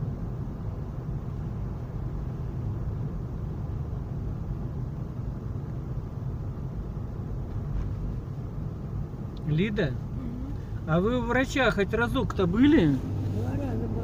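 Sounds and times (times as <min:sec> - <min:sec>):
car cabin road noise: 0:00.0 - 0:14.0.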